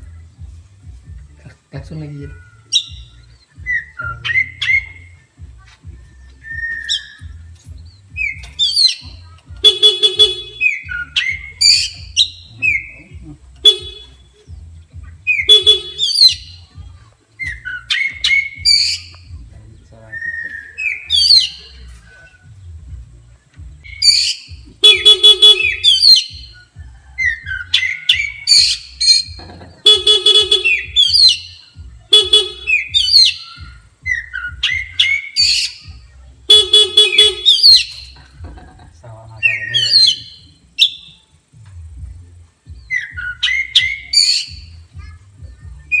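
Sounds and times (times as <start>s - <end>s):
bird singing whistles and buzzes: 0.0s - 38.6s, 39.2s - 46.0s.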